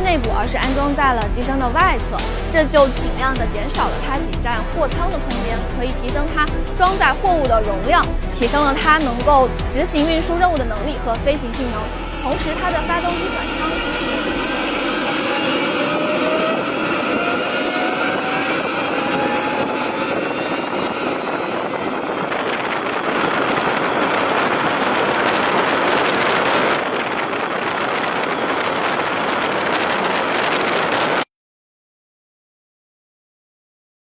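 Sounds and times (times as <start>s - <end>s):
jet engines spooling up: 0.0s - 31.2s.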